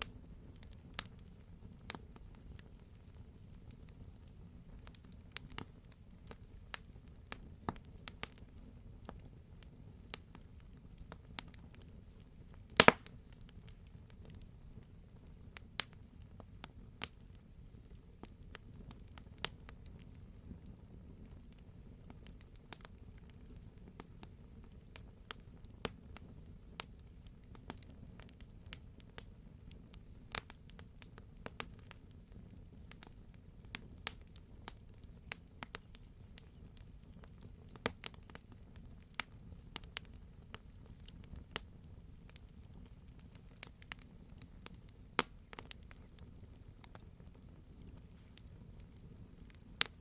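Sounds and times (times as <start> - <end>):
campfire crackling and popping: 0.0 - 50.0
low rumble of flames: 0.0 - 50.0.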